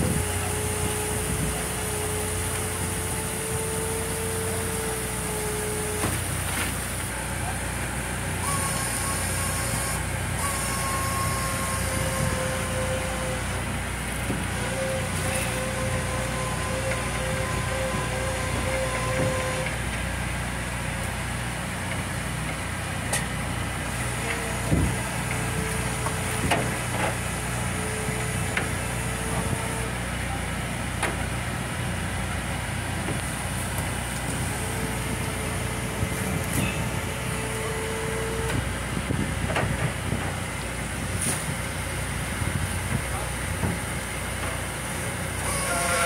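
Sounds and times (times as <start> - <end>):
engine and machinery drone: 0.0 - 46.0
steady machine whine: 0.0 - 46.0.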